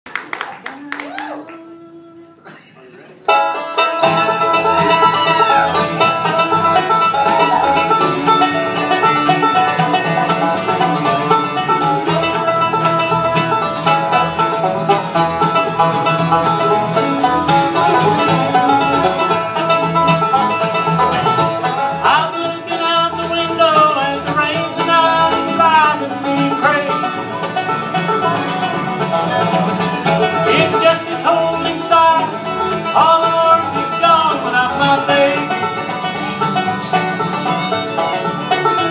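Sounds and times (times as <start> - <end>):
banjo rolls: 0.1 - 38.9
bluegrass band playing: 0.1 - 38.9.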